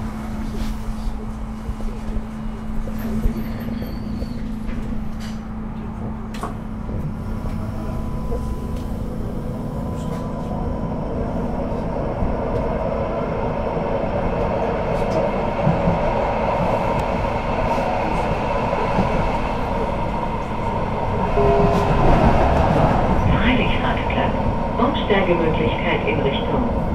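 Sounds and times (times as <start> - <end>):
light-rail car running noise: 0.0 - 26.9.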